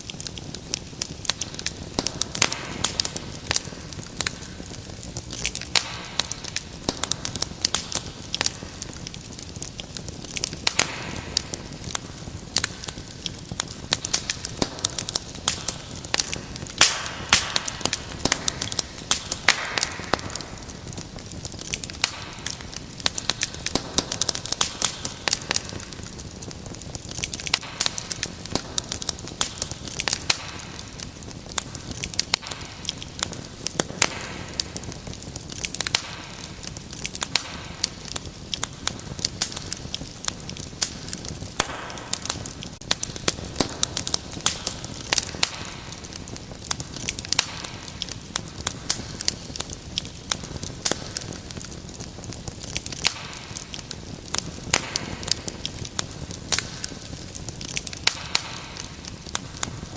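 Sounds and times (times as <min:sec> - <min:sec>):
soft hiss of burning: 0:00.0 - 0:59.9
wood fire crackling: 0:00.0 - 0:59.9.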